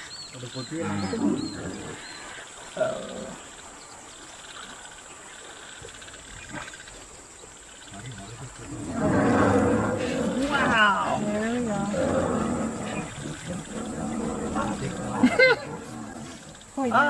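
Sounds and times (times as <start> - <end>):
faint high-pitched insect hum: 0.0 - 17.0.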